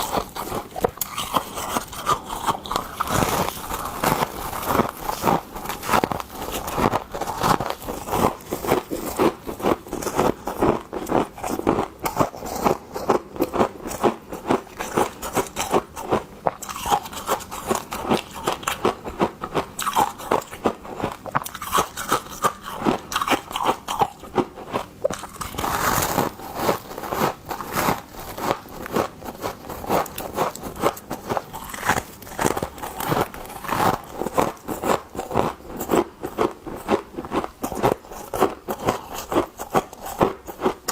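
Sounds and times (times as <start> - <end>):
frost crunching: 0.0 - 19.0, 21.4 - 40.9.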